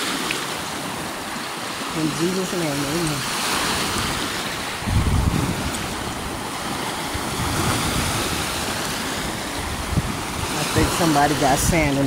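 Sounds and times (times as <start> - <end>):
waves washing onto shore: 0.0 - 12.0
wind on microphone: 1.9 - 12.0.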